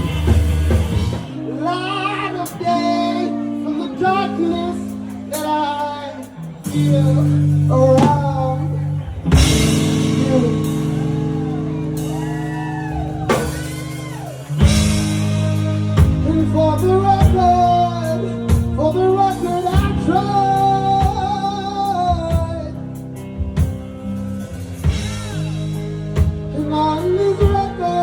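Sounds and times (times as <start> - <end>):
drums: 0.0 - 28.0
live band playing blues-rock: 0.0 - 28.0.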